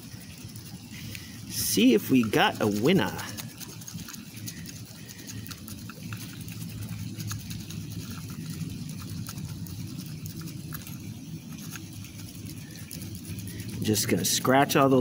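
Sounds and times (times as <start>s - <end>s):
scraper rasping on scratch ticket: 0.0s - 14.5s
steady low hum: 0.0s - 15.0s.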